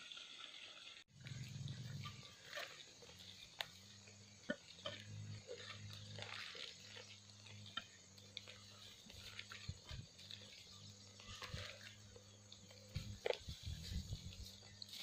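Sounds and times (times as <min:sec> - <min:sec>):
low hum: 0:01.1 - 0:15.0.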